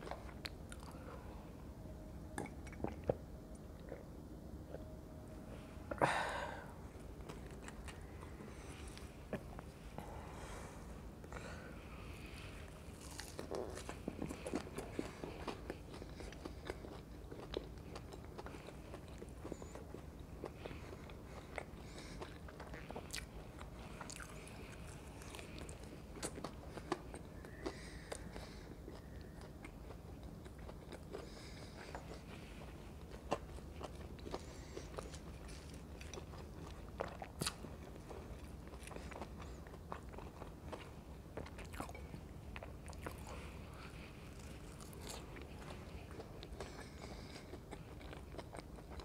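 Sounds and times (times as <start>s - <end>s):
chewing crispy fried food: 7.1s - 9.7s, 12.2s - 49.0s.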